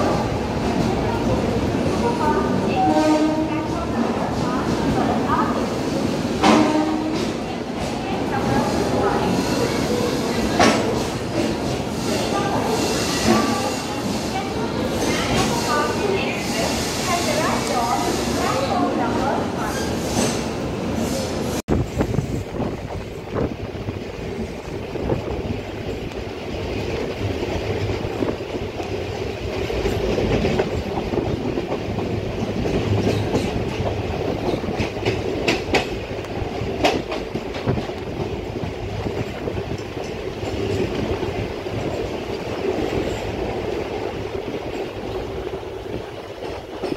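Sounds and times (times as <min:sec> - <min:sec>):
train wheels rumbling over rail joints: 0:00.0 - 0:46.9.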